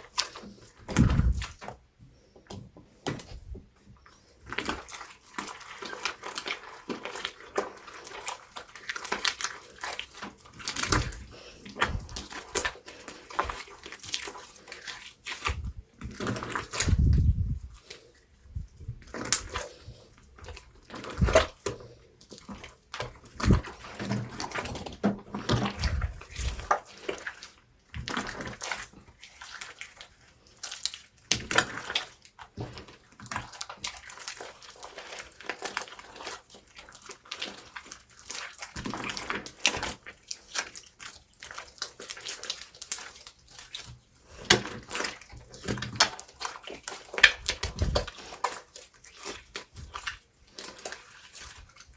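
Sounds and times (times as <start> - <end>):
slime squelching: 0.0 - 51.9.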